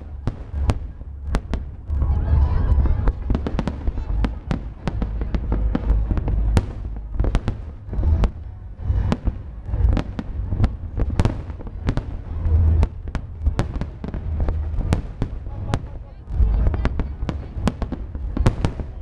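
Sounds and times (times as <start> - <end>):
deep rumble: 0.0 - 19.0
fireworks bangs and crackles: 0.0 - 19.0.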